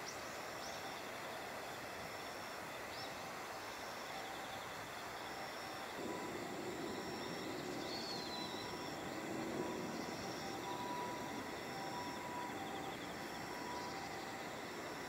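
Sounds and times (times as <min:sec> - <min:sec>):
crickets chirring: 0:00.0 - 0:15.0
outdoor hiss: 0:00.0 - 0:15.0.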